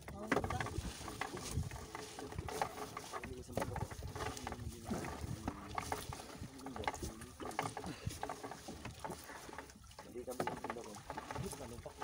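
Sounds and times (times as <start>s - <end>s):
fishing net clicking and knocking: 0.0s - 12.0s.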